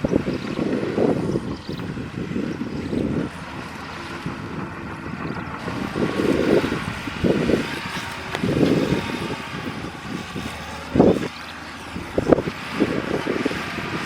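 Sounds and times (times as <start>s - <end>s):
bulldozer diesel engine working: 0.0s - 14.0s.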